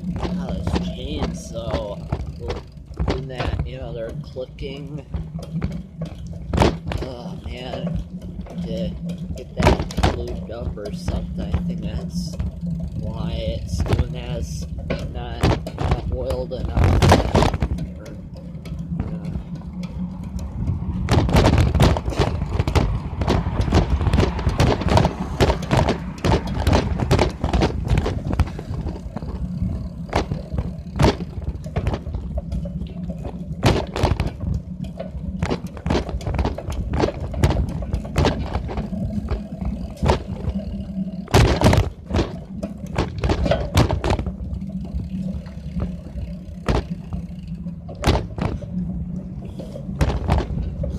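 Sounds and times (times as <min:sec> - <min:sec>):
bicycle chain clicking: 0:00.0 - 0:50.9
low rumble of riding: 0:00.0 - 0:50.9.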